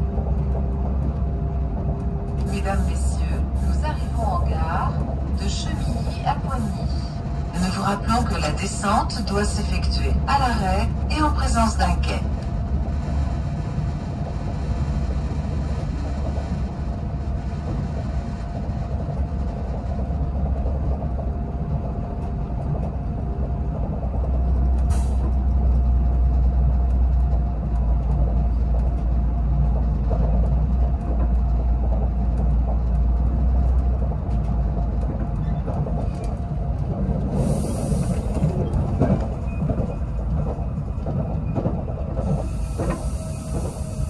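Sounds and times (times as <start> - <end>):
train rumbling inside carriage: 0.0 - 44.0.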